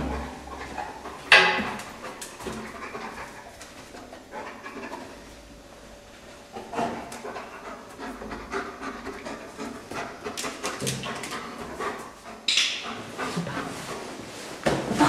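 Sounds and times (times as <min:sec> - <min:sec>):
dog panting and sniffing: 0:00.0 - 0:05.5, 0:06.4 - 0:14.6.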